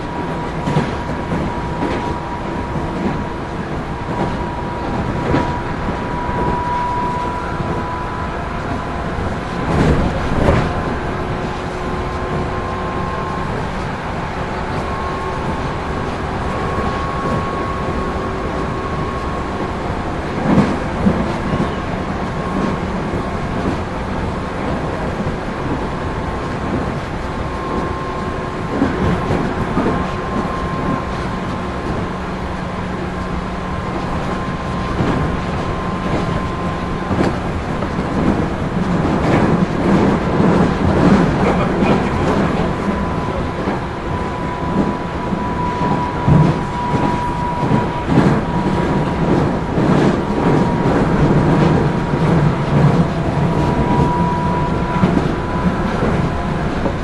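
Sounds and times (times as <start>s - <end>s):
train running noise with whine: 0.0s - 57.0s.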